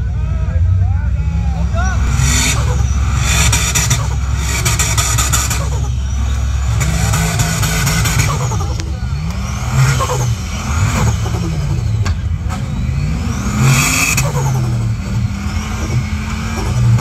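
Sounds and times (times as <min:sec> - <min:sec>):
engine revving under load: 0:00.0 - 0:17.0
high whine: 0:00.0 - 0:17.0.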